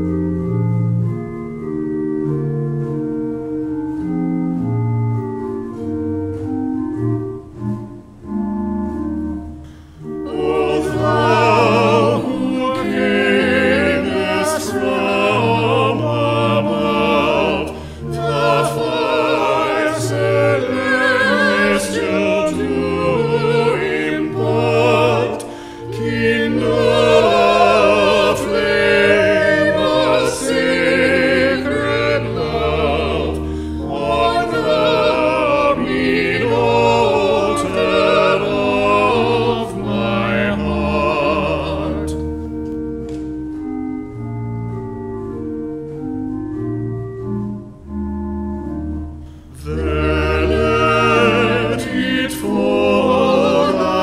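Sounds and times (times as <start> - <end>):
choir singing church music: 0.0 - 54.0
organ playing: 0.0 - 54.0.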